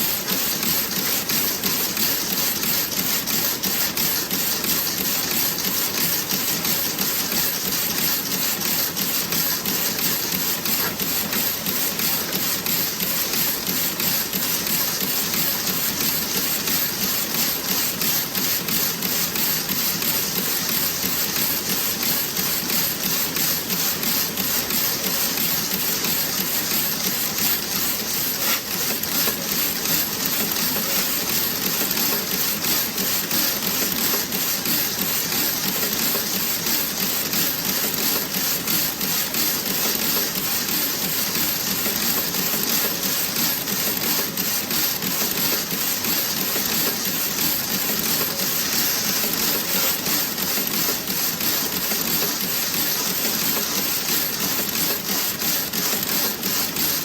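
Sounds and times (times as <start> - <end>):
knitting machine clattering: 0.0 - 57.0.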